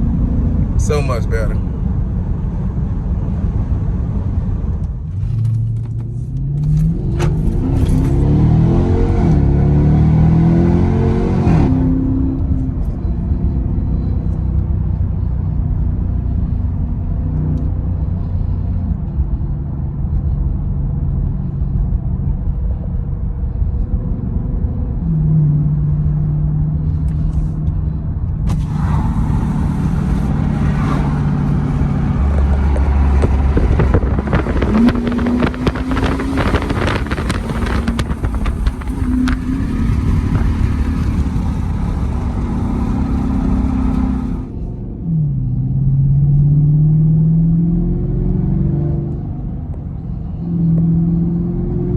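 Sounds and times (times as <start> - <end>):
car exhaust droning: 7.4 - 51.9.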